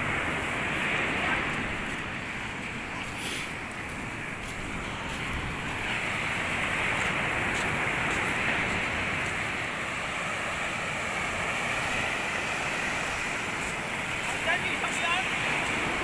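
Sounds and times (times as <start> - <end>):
ocean waves breaking on beach: 0.0 - 16.0.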